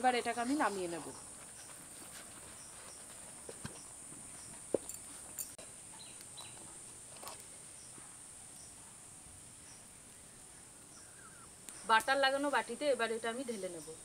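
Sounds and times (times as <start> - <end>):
crickets droning: 0.0 - 14.0.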